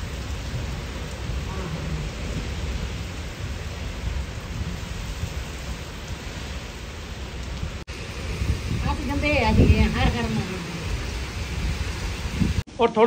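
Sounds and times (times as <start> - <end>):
gusting wind rumble: 0.0 - 12.7
heavy rain hissing: 0.0 - 13.0.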